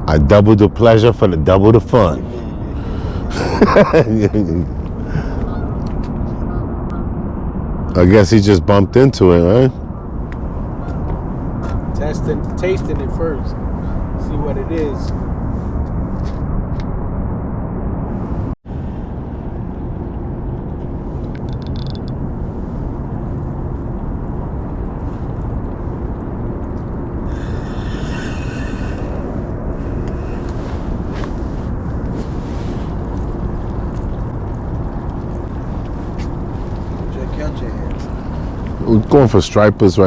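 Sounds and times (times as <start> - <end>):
faint steady hum: 0.0 - 40.0
low outdoor rumble: 0.0 - 40.0.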